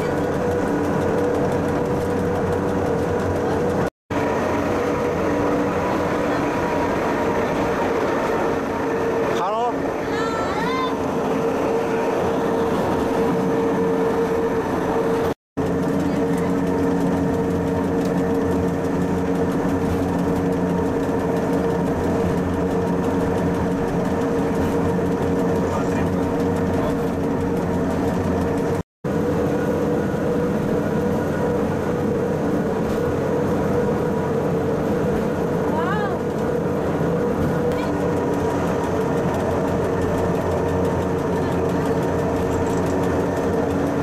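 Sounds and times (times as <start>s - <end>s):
vehicle cabin engine drone: 0.0s - 44.0s.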